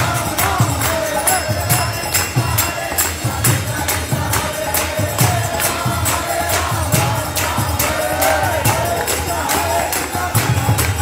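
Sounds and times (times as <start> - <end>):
group chanting: 0.0 - 11.0
hand cymbals clashing: 0.0 - 11.0
hand drums: 0.0 - 11.0.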